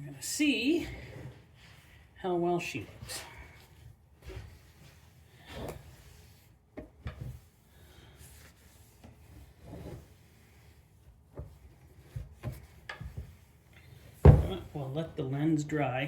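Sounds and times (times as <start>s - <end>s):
cloth rubbing on plastic lens: 0.4s - 15.5s.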